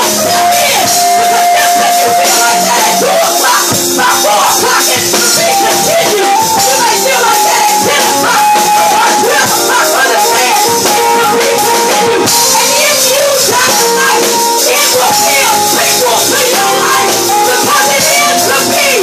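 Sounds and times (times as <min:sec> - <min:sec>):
drum kit with busy cymbals: 0:00.0 - 0:19.0
electric guitar: 0:00.0 - 0:19.0
held keyboard notes: 0:00.0 - 0:19.0.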